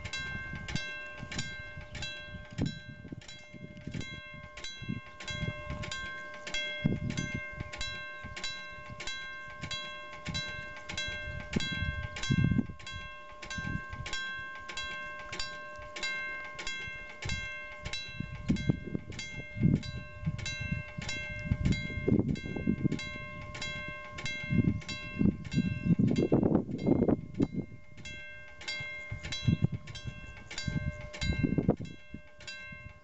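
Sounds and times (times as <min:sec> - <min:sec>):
level crossing bell ringing: 0:00.0 - 0:33.0.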